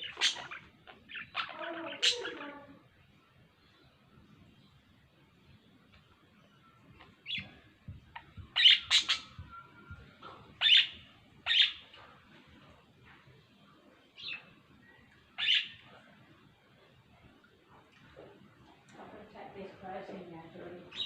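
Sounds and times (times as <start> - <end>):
pet birds chirping: 0.0 - 2.9, 3.5 - 21.0.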